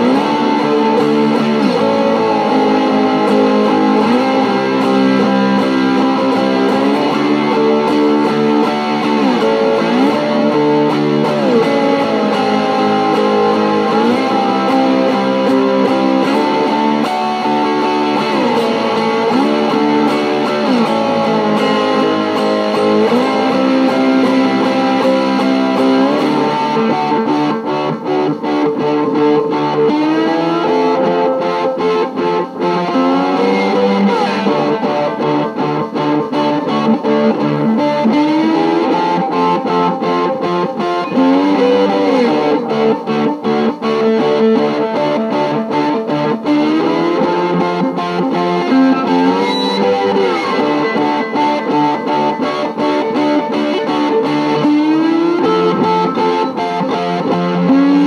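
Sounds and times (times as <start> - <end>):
cigar box guitar playing: 0.0 - 58.0.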